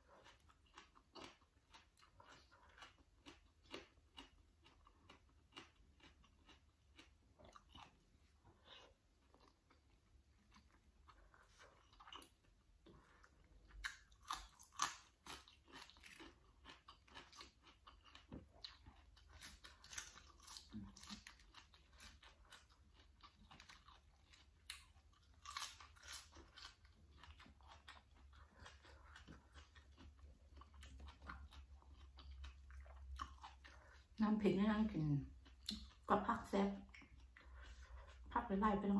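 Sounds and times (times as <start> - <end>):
person chewing crunchy vegetables: 0.0 - 34.2, 34.8 - 38.8.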